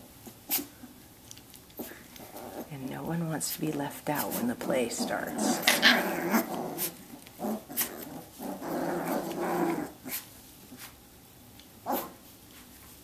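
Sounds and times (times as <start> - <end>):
puppies play-growling: 0.0 - 11.0, 11.6 - 12.7.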